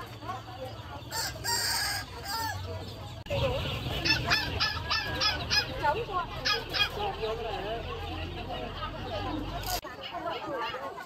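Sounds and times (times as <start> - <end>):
caged poultry calling: 0.0 - 11.0.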